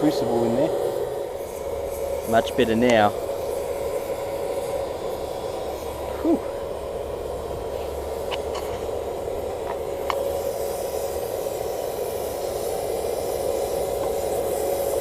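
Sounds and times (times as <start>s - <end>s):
furnace forced air hiss: 0.0s - 15.0s
steady hum: 0.0s - 15.0s.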